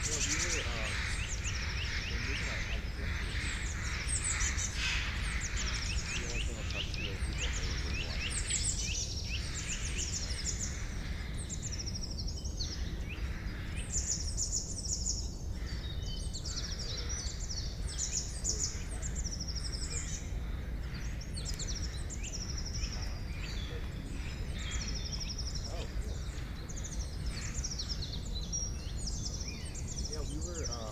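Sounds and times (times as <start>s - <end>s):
songbirds chirping and trilling: 0.0s - 30.9s.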